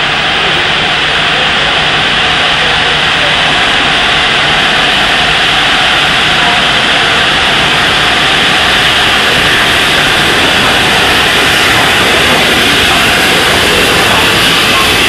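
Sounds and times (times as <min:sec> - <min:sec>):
steam locomotive hissing steam: 0:00.0 - 0:15.0.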